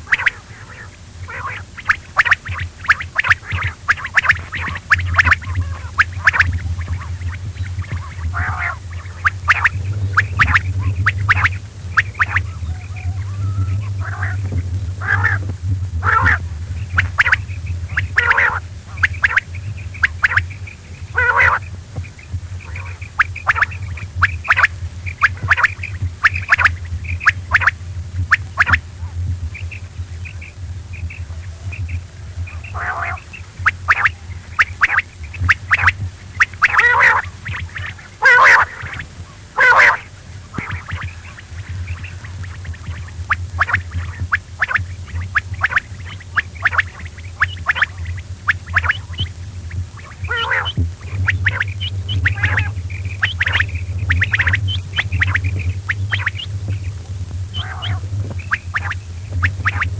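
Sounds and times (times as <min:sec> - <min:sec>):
quail calling: 0:00.0 - 0:59.9
steady low hum: 0:00.0 - 0:59.9.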